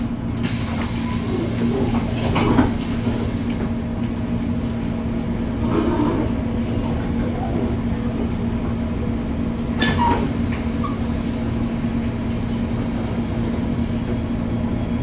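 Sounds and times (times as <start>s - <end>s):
train clunks and rattles: 0.0s - 14.9s
train rumble and hum: 0.0s - 15.0s.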